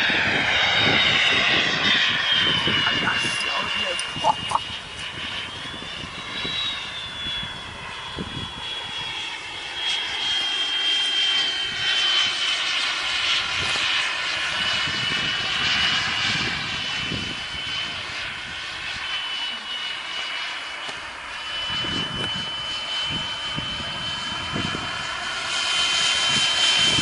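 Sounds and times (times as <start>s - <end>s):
model airplane engine whining: 0.0s - 27.0s.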